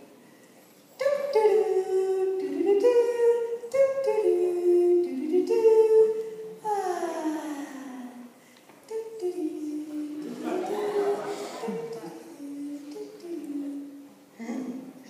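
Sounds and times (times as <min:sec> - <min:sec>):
person humming a melody: 0:01.0 - 0:08.2, 0:08.9 - 0:14.0.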